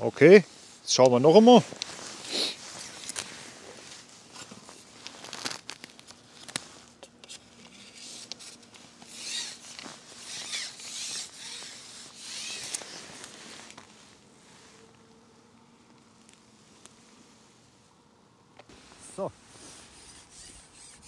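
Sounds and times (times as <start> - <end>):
fishing pole rustling and scraping: 0.2 - 15.0, 18.7 - 21.0.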